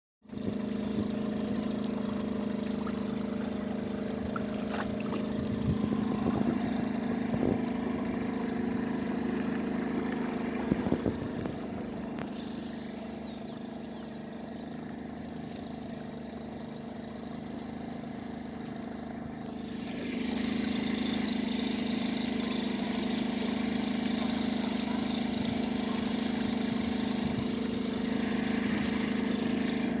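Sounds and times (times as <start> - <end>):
engine humming: 0.3 - 30.0.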